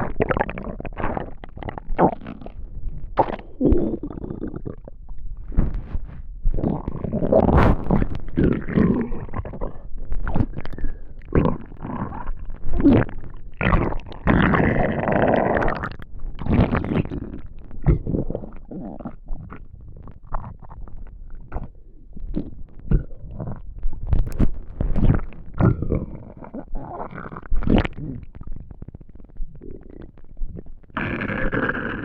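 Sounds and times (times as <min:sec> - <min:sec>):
stomach rumbling and gurgling: 0:00.0 - 0:32.0.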